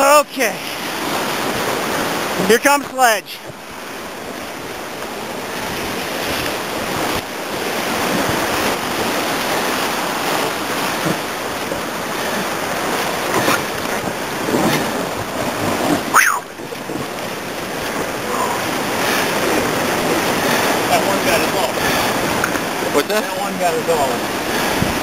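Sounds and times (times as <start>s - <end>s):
river rapids rushing and crashing: 0.0s - 25.0s
wind on microphone: 3.4s - 25.0s.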